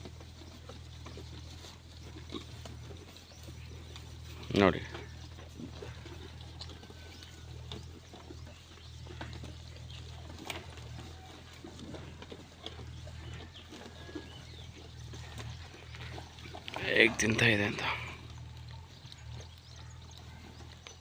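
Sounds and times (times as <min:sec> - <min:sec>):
sheep crunching fodder: 0:00.0 - 0:21.0.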